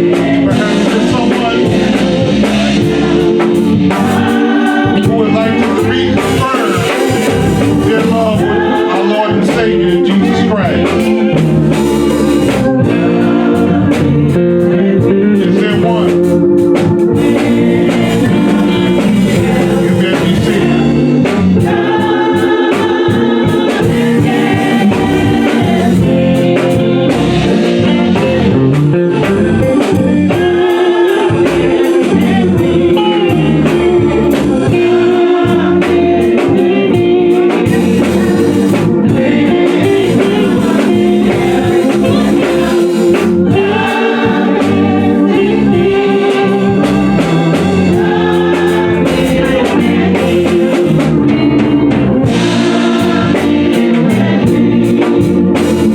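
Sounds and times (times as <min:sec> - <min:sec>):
drums: 0:00.0 - 0:55.9
gospel singing: 0:00.0 - 0:55.9
guitar: 0:00.0 - 0:55.9.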